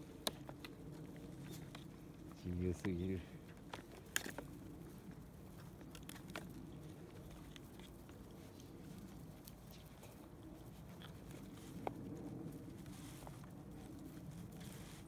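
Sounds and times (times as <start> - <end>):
puppies eating from cardboard tray: 0.0 - 15.0.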